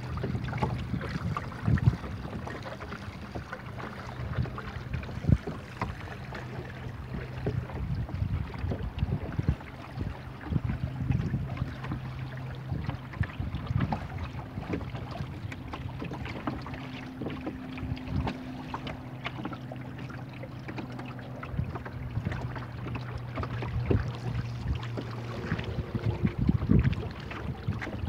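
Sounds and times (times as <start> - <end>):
low hum: 0.0 - 28.0
water slapping against boat hull: 0.0 - 28.0
wind buffeting microphone: 0.0 - 28.0.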